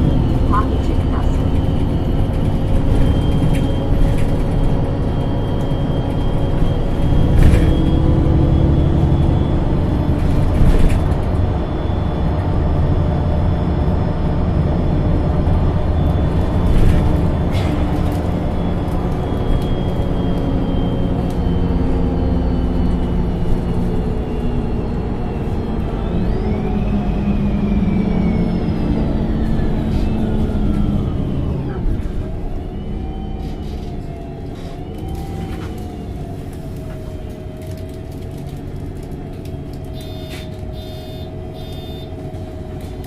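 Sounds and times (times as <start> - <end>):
bus engine while driving: 0.0 - 43.0.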